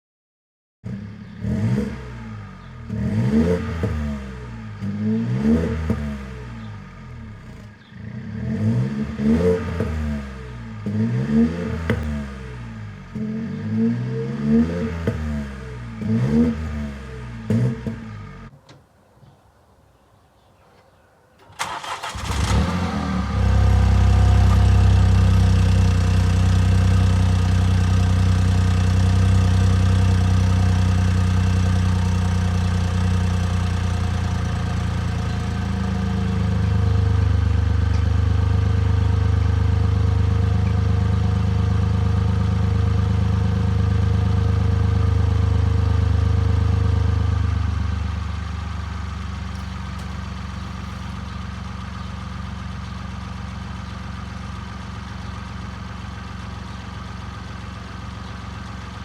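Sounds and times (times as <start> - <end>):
car engine starting and idling: 0.9 - 18.5, 21.4 - 59.0.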